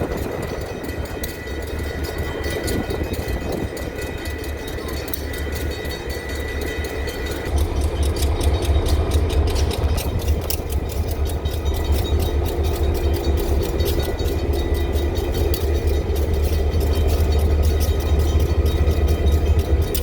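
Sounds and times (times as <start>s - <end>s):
diesel locomotives idling: 0.0s - 20.0s.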